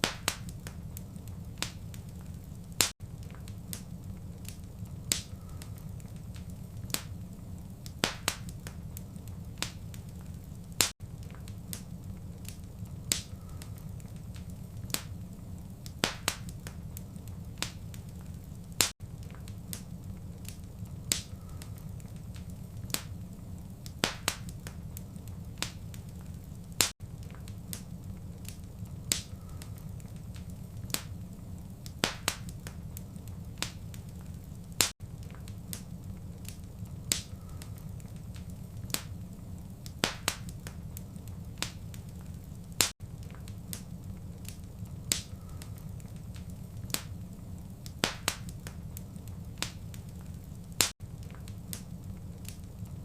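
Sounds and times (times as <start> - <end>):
low rumble of flames: 0.0 - 53.0
wood fire crackling and popping: 0.0 - 53.0.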